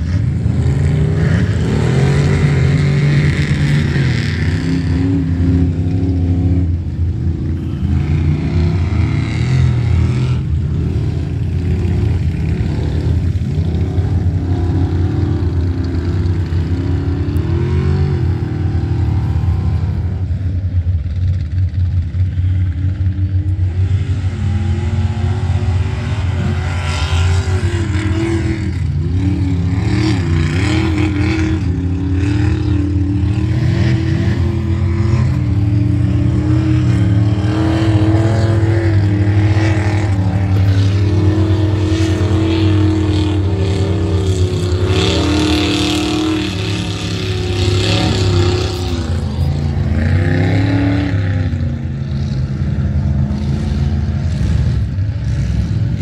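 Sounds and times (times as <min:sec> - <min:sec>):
truck engines revving: 0:00.0 - 0:56.0.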